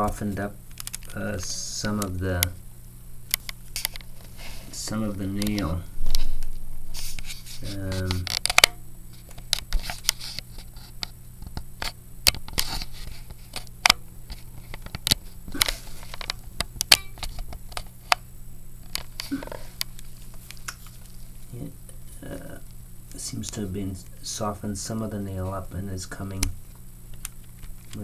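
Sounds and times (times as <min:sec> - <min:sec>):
small scratching sounds: 0:03.4 - 0:28.0.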